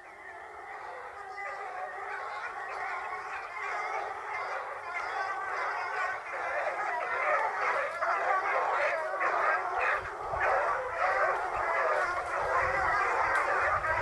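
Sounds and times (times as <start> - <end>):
hounds baying and yelping: 0.0 - 14.0.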